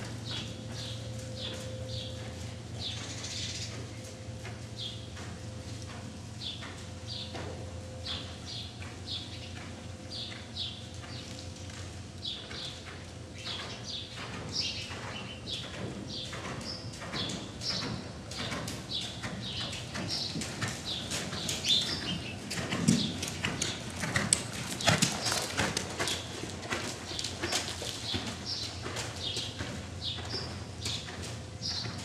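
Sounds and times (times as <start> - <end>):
horse hooves trotting on sand: 0.0 - 32.0.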